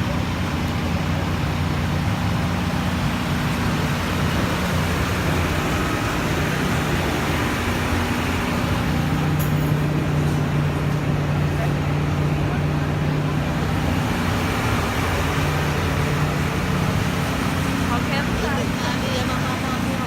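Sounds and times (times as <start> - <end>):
large engine idling: 0.0 - 20.0
street noise: 0.0 - 20.0.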